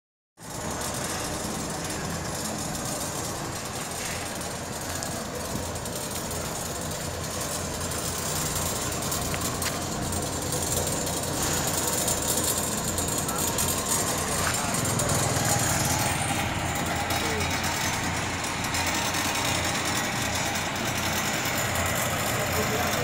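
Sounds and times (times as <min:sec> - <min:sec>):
truck diesel engine running: 0:00.4 - 0:23.0.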